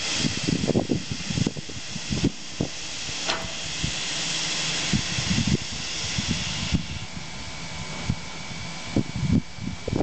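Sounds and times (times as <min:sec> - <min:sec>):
steam hissing: 0:00.0 - 0:09.5.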